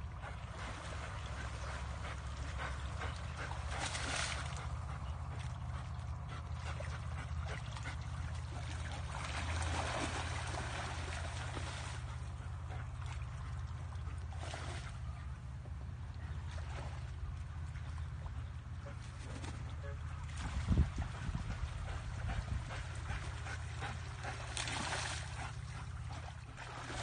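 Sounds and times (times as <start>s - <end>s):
muddy water splashing: 0.0s - 27.0s
steady low hum: 0.0s - 27.0s.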